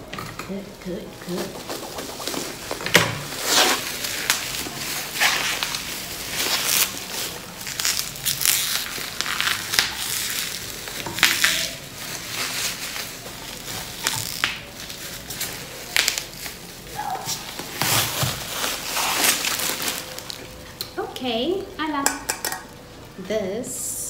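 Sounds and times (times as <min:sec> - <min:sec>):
bubble wrap crinkling: 0:00.5 - 0:21.8.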